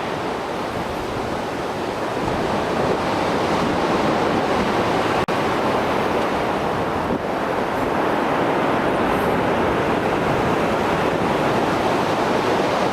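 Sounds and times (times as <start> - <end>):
surf washing onto shore: 0.0 - 12.9.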